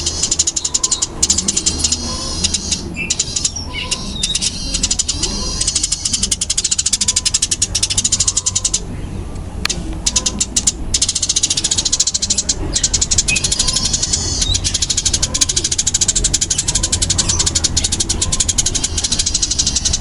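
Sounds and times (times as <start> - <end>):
sparrow chirping rapidly: 0.0 - 20.0.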